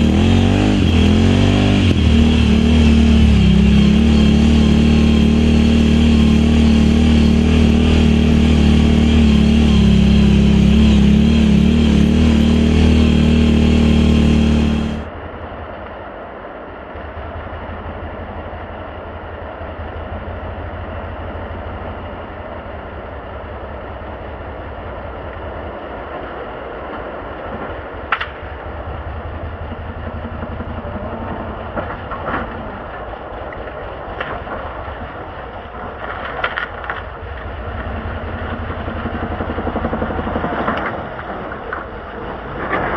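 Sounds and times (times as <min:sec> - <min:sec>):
engine running loud: 0:00.0 - 0:15.4, 0:17.0 - 0:42.9.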